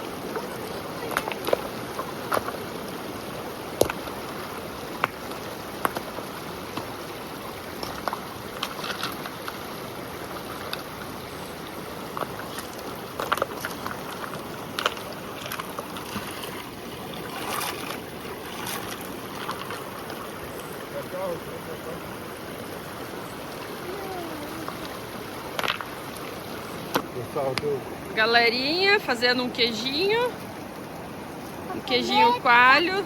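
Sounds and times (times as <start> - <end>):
river flowing: 0.0 - 33.0.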